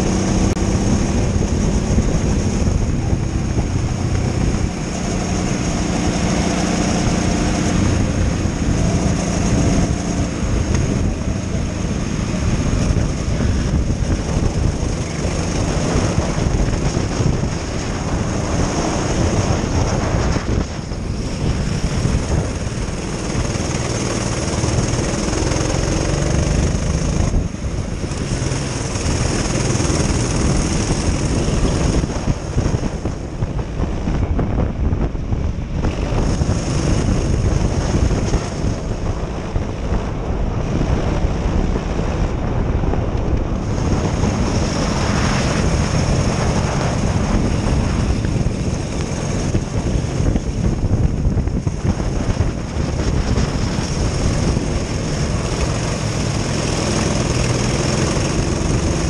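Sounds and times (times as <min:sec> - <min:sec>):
race kart engine running: 0:00.0 - 0:59.0
wind buffeting microphone: 0:00.0 - 0:59.0.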